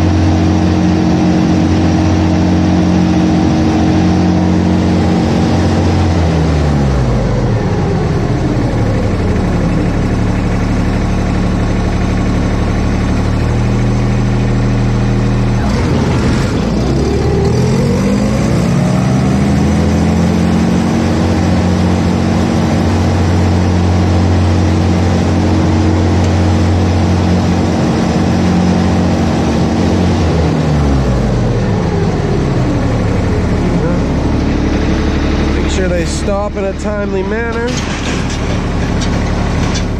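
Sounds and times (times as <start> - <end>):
mower with blower running: 0.0 - 39.9.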